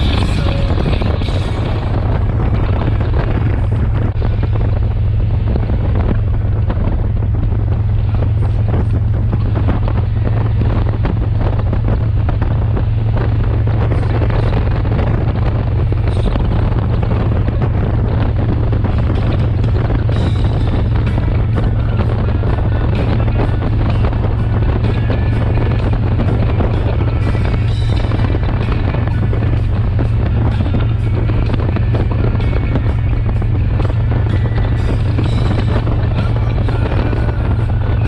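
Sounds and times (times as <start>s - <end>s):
motorcycle engine cruising: 0.0s - 38.0s
wind buffeting microphone: 0.0s - 38.0s.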